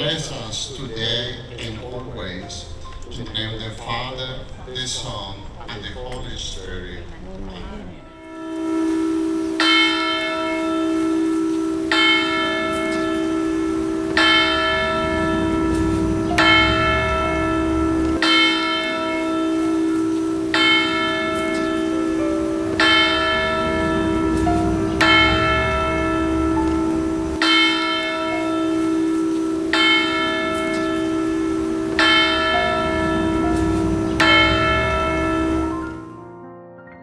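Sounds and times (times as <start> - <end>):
large bell tolling: 0.0 - 36.4.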